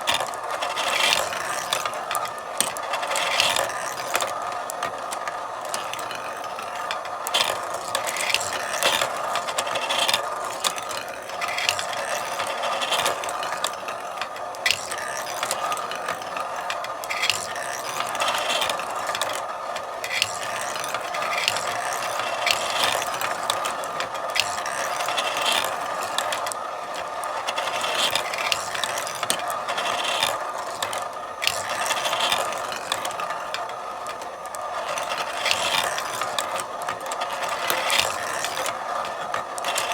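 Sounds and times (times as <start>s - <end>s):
marbles clicking and clacking: 0.0s - 39.9s
marbles rolling on tracks: 0.0s - 39.9s.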